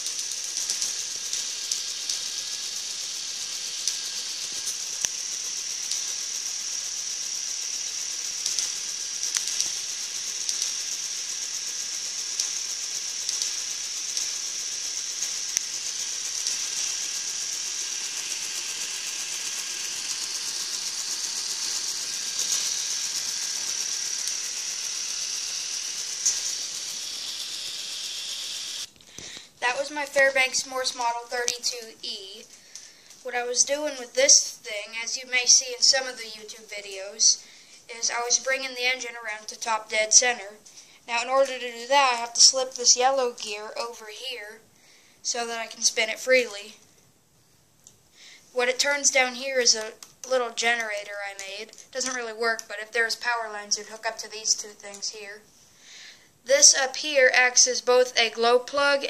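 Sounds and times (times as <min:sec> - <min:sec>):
gears clicking and rattling: 0:00.0 - 0:40.4, 0:48.6 - 0:55.4, 0:56.5 - 0:59.0
plastic gears whirring: 0:00.0 - 0:40.4, 0:48.6 - 0:55.3, 0:56.5 - 0:59.0.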